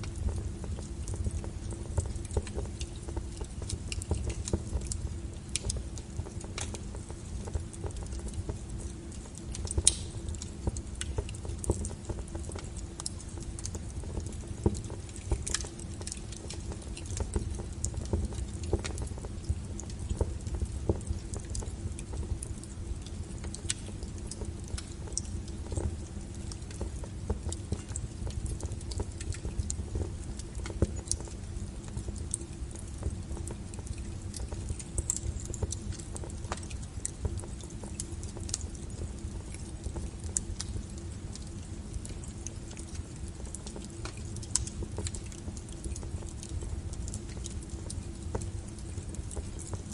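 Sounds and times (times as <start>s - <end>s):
low steady rumble: 0.0s - 49.9s
wood fire crackling: 0.0s - 49.9s.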